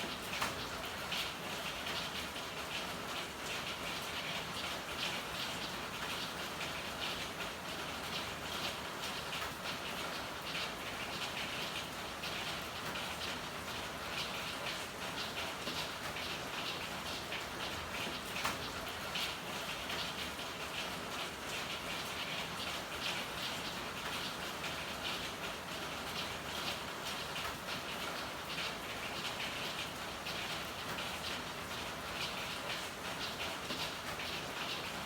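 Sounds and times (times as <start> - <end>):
rain pattering on hard surfaces: 0.0 - 35.0.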